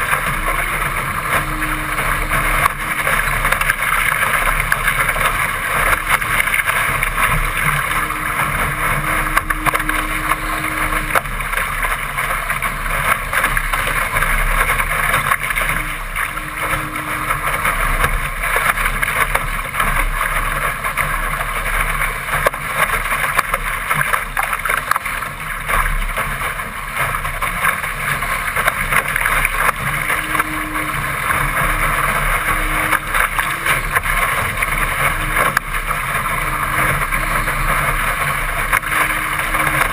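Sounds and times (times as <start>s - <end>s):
water hissing and splashing on hull: 0.0s - 39.9s.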